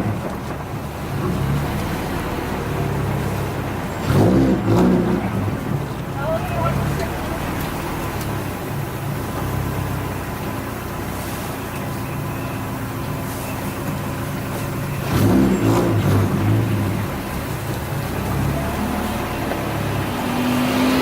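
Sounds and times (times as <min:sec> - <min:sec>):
car engine from inside: 0:00.0 - 0:21.0.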